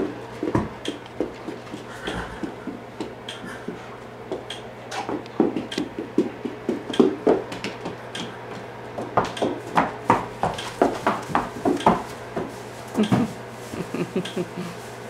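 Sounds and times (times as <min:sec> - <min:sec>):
hooves clopping on concrete: 0:00.0 - 0:13.3.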